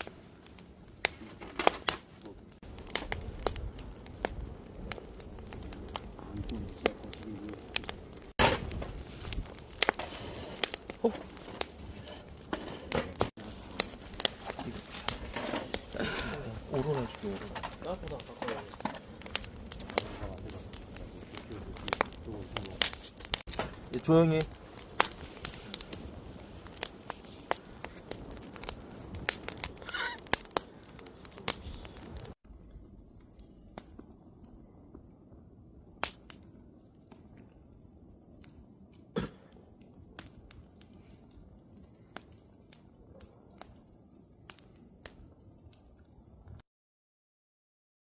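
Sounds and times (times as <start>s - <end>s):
campfire crackling and popping: 0.0s - 46.6s.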